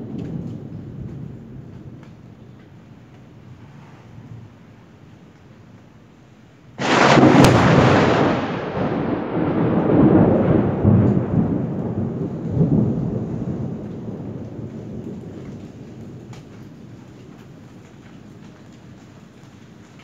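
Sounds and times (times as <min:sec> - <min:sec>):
thunder crack and rumble: 0:00.0 - 0:04.7, 0:06.8 - 0:20.0.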